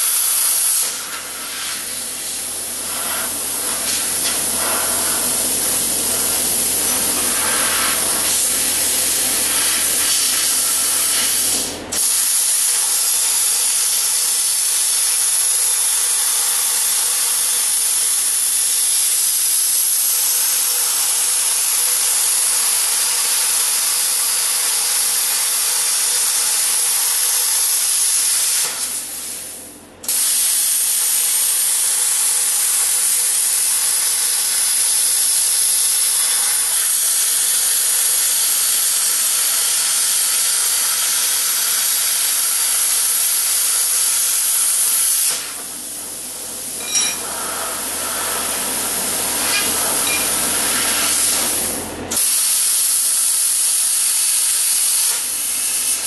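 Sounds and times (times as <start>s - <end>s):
plasma cutter arc hiss: 0.0s - 56.0s.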